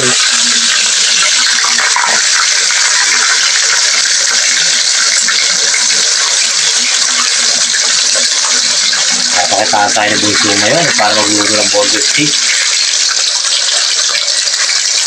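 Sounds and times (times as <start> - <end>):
patties sizzling in hot oil: 0.0 - 15.0.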